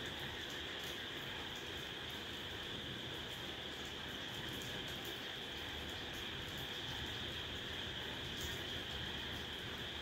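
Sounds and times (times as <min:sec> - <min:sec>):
rain hiss: 0:00.0 - 0:10.0.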